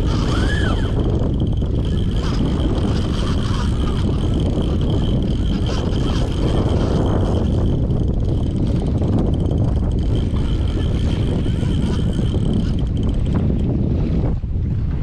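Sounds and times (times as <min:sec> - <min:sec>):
steady high whine: 0:00.0 - 0:13.7
water rushing along hull: 0:00.0 - 0:15.0
wind buffeting microphone: 0:00.0 - 0:15.0.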